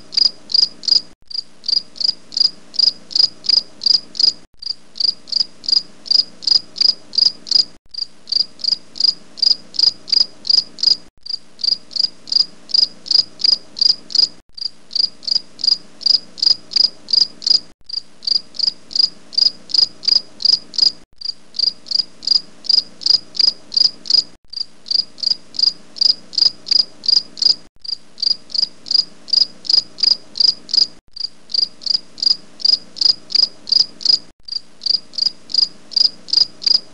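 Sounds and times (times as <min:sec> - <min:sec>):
insect chirping: 0:00.0 - 0:36.9.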